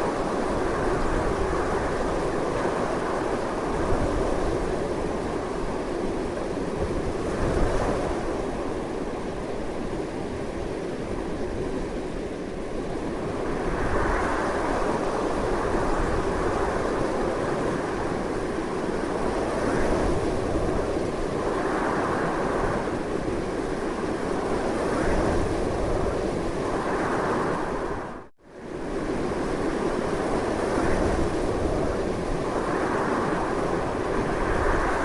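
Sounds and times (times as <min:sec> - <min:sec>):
strong gusting wind: 0:00.0 - 0:35.0.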